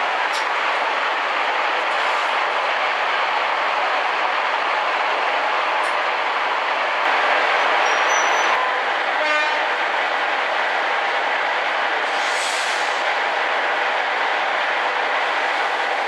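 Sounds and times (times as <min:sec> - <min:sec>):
train engine wheel and wind noise: 0:00.0 - 0:16.0.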